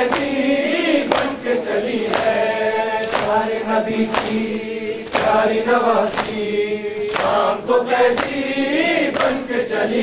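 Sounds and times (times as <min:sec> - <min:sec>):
men chanting in unison: 0:00.0 - 0:10.0.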